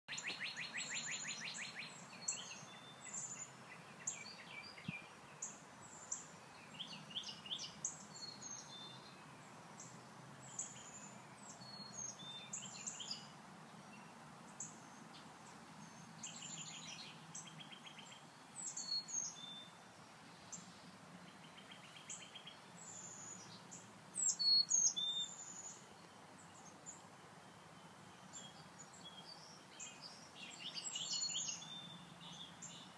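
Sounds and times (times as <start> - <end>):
songbirds singing and chirping: 0.1 - 32.9.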